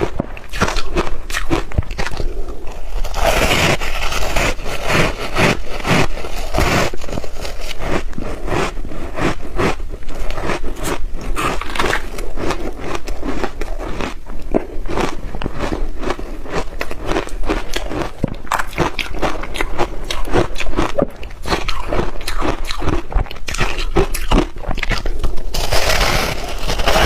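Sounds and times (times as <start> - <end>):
ice being bitten and chewed: 0.0 - 27.0.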